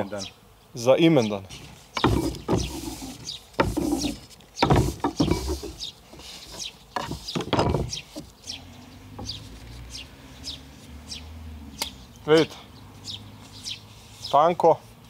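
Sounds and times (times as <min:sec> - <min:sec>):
small bird chirping: 0:00.0 - 0:14.5.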